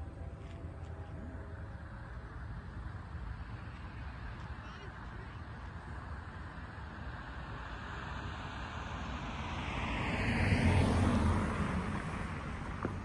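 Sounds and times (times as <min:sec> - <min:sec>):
car passing by: 0:00.0 - 0:13.0.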